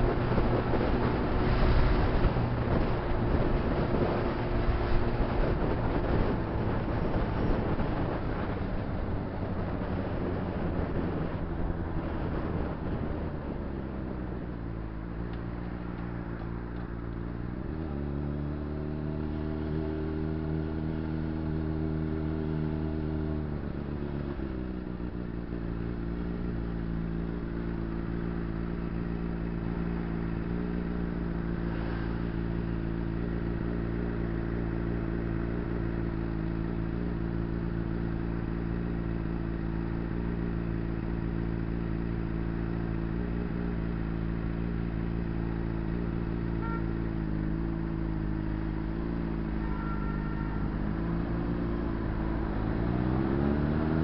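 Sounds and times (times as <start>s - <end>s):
motorcycle engine revving and idling: 0.0s - 54.0s.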